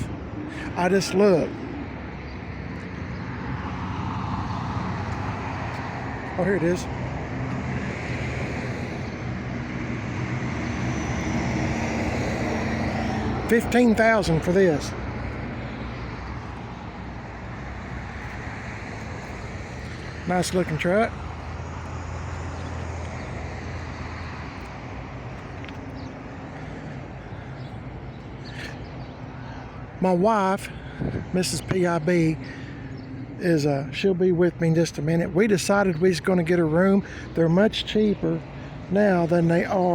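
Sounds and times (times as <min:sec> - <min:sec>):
road traffic noise: 0:00.0 - 0:39.9.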